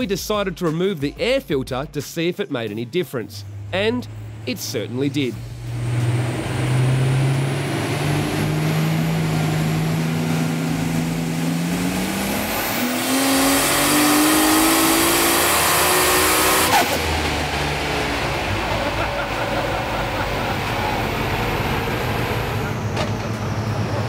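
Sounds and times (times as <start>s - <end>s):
high turbo whine: 3.2s - 24.0s
car engine at full throttle: 3.4s - 24.0s.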